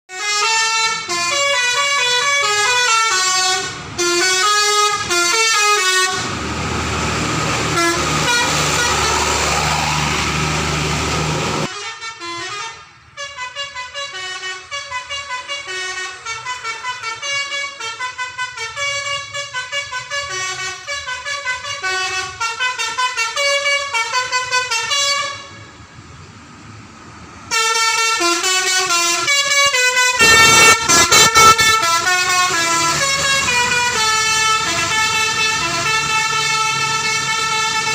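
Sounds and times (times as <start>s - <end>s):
musical air horn melody: 0.1s - 6.4s, 7.6s - 25.6s, 27.5s - 37.9s
loud noisy horn blast: 0.1s - 25.8s, 27.5s - 37.9s.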